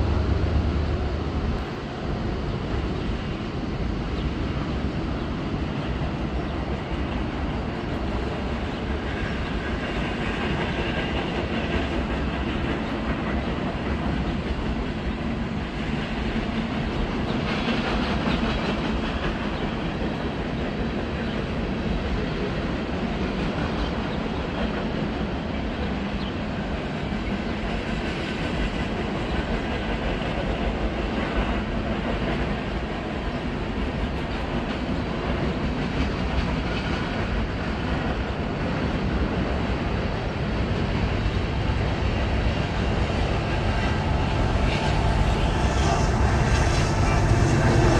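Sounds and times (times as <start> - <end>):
diesel locomotive engine: 0.0 - 47.9
train wheels rumbling on rails: 0.0 - 47.9.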